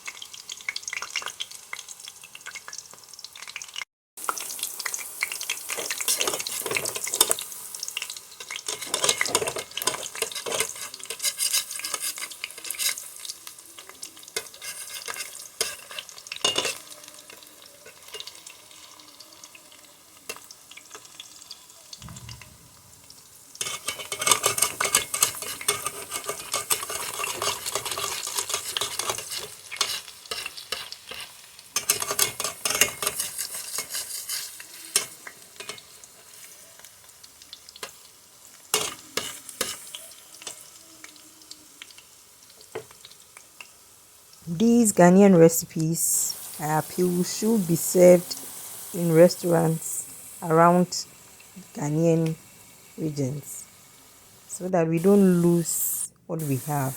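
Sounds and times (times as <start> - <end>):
fritters frying in hot oil: 0.0 - 56.9.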